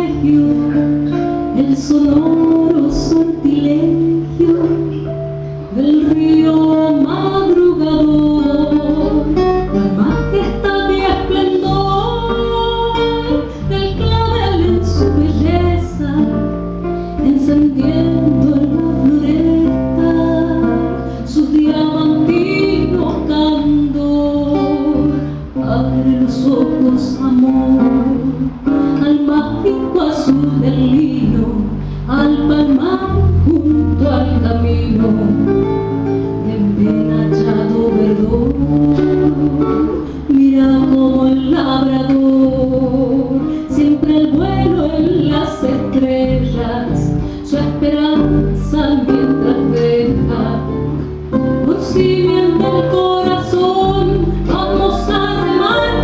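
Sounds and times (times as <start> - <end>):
acoustic guitars plucking and strumming: 0.0 - 56.0
low sustained bass notes: 0.0 - 56.0
woman singing into a microphone: 0.0 - 56.0.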